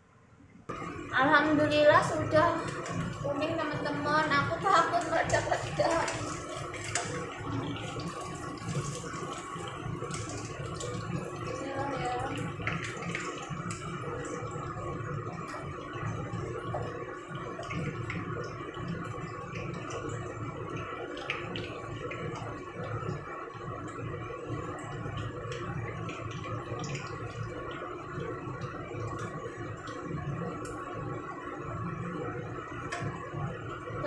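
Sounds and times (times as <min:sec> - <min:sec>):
chicken deep-frying in oil: 0:00.7 - 0:34.0.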